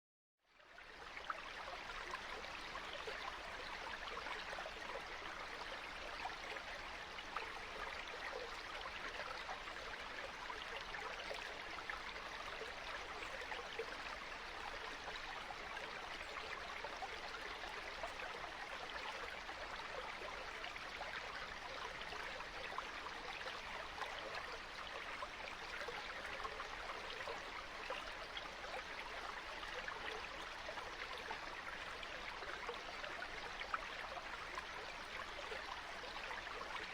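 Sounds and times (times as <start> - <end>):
stream water running: 0.6 - 36.9.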